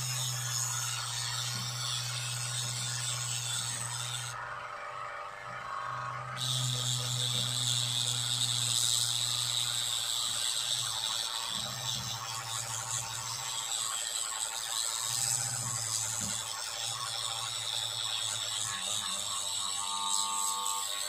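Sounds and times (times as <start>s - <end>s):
electric drill grinding: 0.0s - 21.0s.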